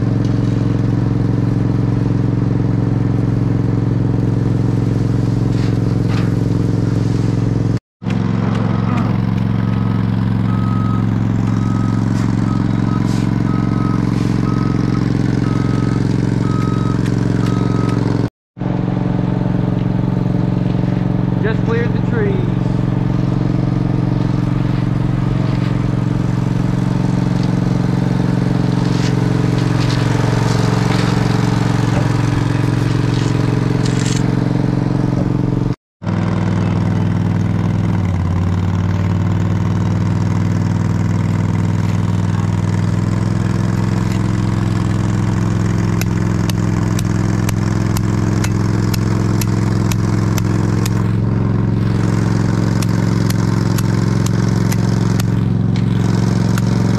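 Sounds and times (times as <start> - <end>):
diesel engine running under load: 0.0 - 56.9.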